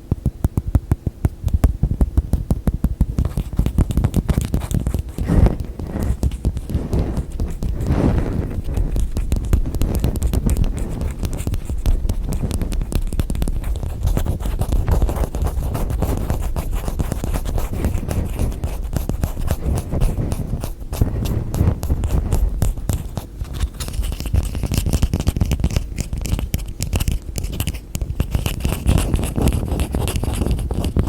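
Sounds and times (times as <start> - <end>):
fingernails tapping and scratching: 0.3 - 31.0.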